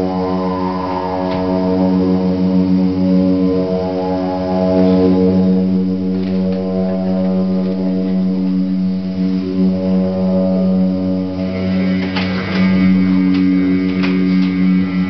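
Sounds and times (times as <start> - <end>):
didgeridoo-like drone: 0.0 - 15.0.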